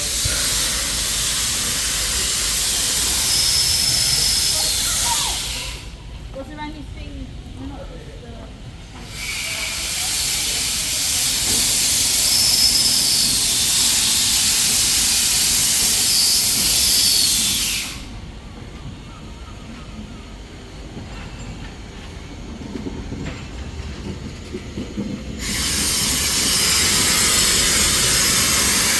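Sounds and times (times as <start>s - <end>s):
steam locomotive hissing: 0.0s - 28.9s.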